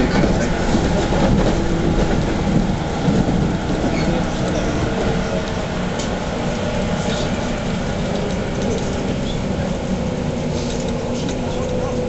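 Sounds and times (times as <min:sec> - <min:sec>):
train rumbling in motion: 0:00.0 - 0:12.0.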